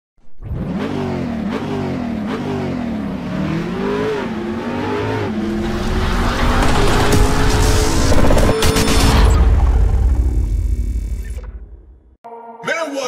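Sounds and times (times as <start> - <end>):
car engine revving: 0.4 - 11.2.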